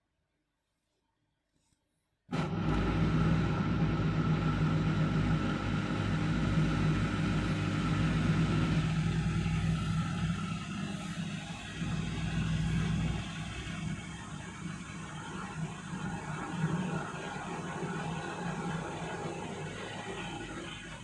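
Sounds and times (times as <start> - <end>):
washing machine running: 2.3 - 21.0.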